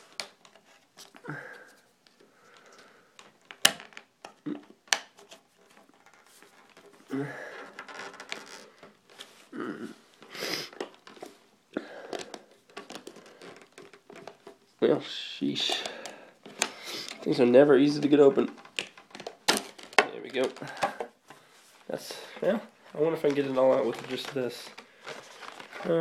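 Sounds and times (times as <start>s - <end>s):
plastic blister pack crinkling: 0.0s - 26.0s.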